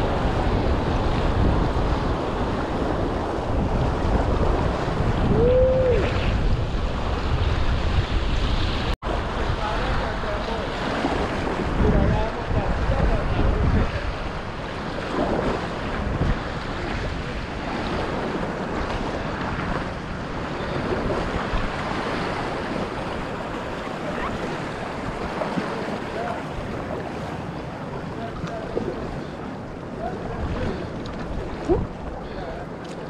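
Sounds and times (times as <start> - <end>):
river rushing and splashing: 0.0 - 33.0
wind buffeting microphone: 0.0 - 33.0.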